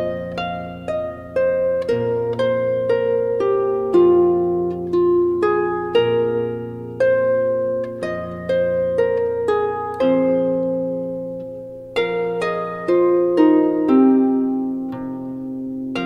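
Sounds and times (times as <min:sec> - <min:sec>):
plucked harp-like instrumental music: 0:00.0 - 0:16.0.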